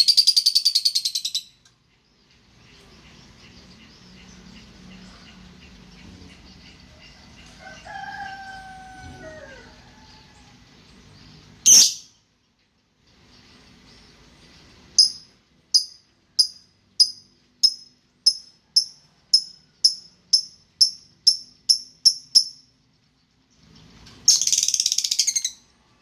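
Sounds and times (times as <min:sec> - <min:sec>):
songbird chirping and trilling: 0:00.0 - 0:12.2, 0:13.2 - 0:22.8, 0:23.8 - 0:26.0.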